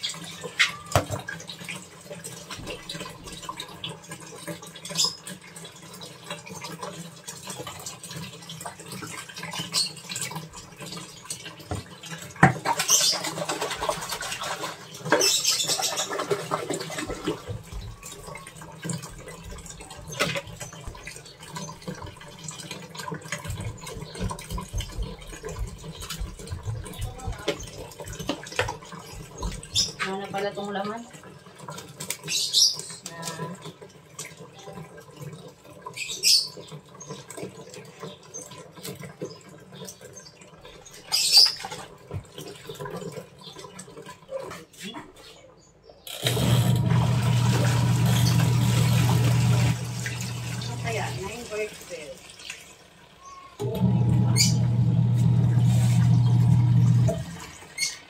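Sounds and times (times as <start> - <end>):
liquid pouring: 0.0 - 44.8, 46.2 - 58.0
water splashing in washing machine: 0.0 - 58.0.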